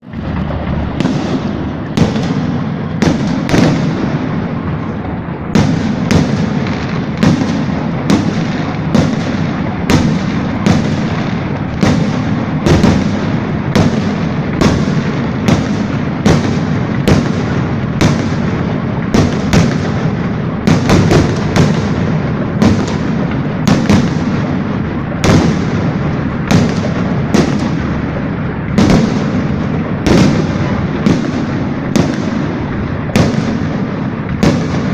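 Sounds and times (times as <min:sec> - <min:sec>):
firework shells bursting: 0:00.0 - 0:34.9
fireworks rumble and crackle: 0:00.0 - 0:34.9.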